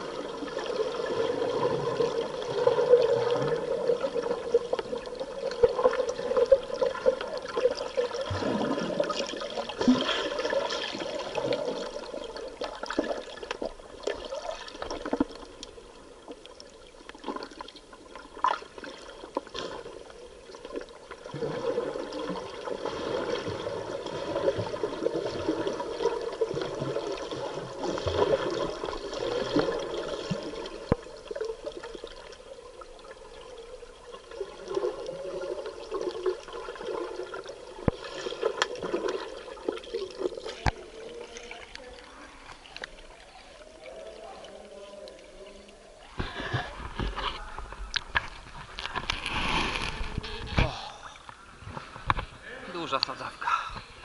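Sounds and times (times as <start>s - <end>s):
underwater exhaust bubbles gurgling: 0.0s - 51.4s.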